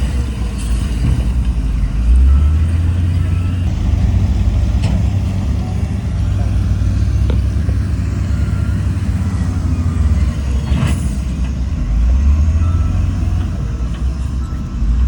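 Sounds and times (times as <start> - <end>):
diesel machinery rumbling: 0.0 - 15.0.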